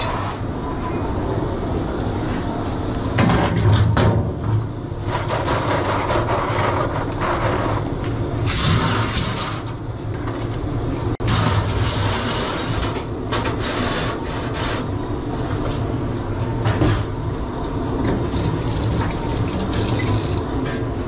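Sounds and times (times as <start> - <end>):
dishwashing machine drone: 0.0 - 21.0.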